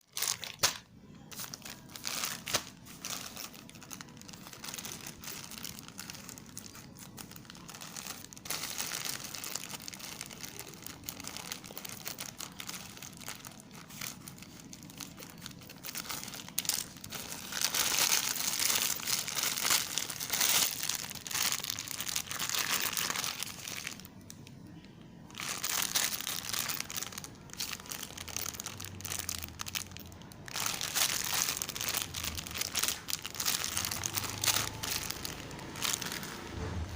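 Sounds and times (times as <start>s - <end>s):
plastic packaging crinkling: 0.0s - 36.9s.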